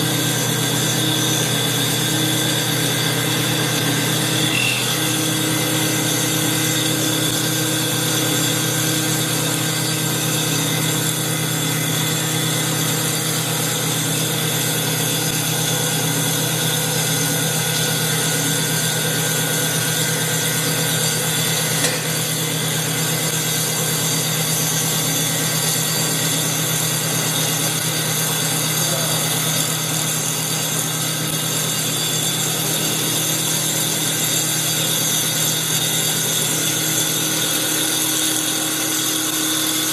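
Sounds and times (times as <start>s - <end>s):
blade cutting wood: 0.0s - 39.9s
lathe motor whine: 0.0s - 39.9s.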